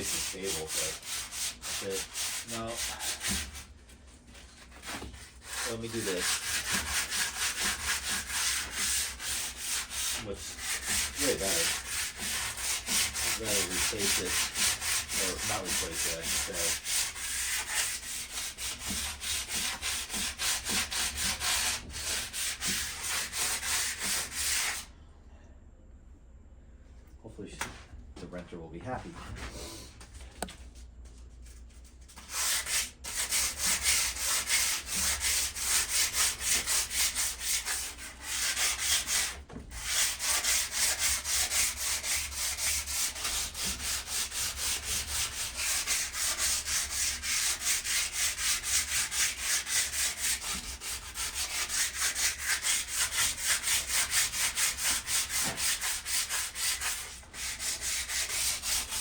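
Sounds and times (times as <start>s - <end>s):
sandpaper rubbing rusted metal: 0.0s - 3.6s, 4.5s - 24.8s, 32.0s - 59.0s.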